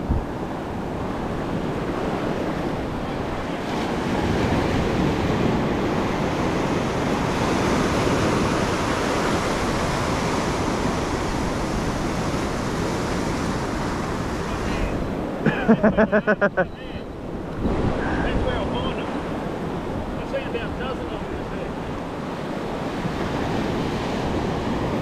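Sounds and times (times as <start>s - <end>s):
ocean surf breaking on shore: 0.0s - 25.0s.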